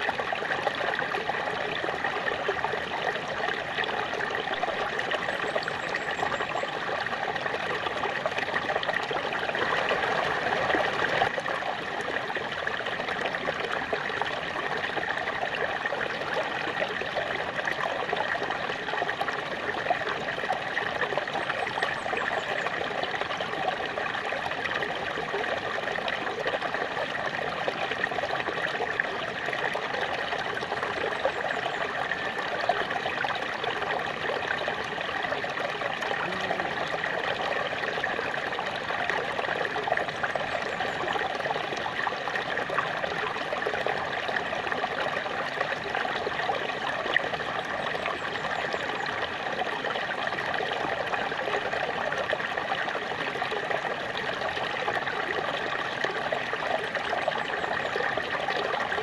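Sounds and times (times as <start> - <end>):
small waterfall splashing: 0.0 - 59.0.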